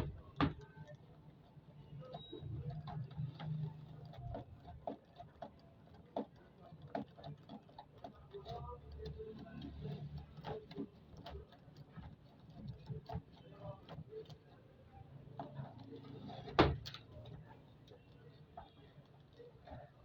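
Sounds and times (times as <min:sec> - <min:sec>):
small clicks and ticks: 0:00.0 - 0:20.0.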